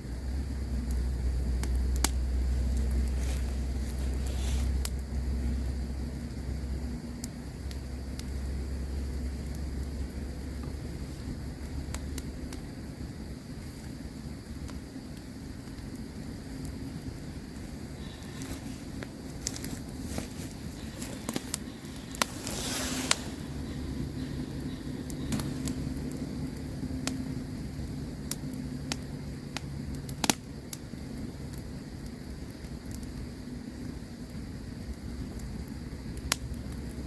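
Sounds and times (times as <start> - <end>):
campfire crackling and popping: 0.0 - 37.0
fire hiss: 0.0 - 37.0.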